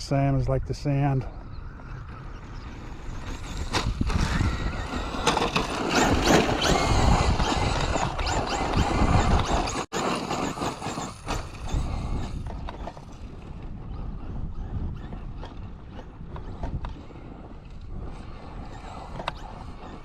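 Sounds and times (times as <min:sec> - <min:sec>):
electric motor whine: 0:01.5 - 0:20.0.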